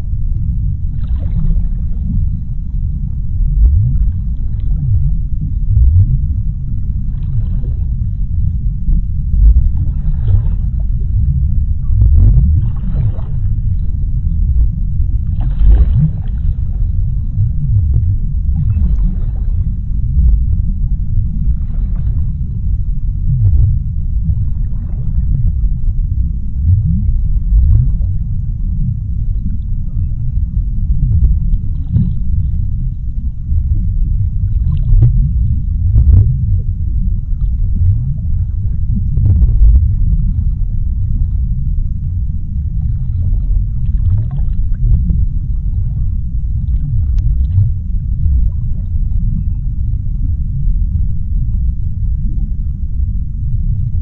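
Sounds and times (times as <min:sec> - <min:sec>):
deep underwater rumble: 0:00.0 - 0:54.0
faint clicks and crackles: 0:00.2 - 0:54.0.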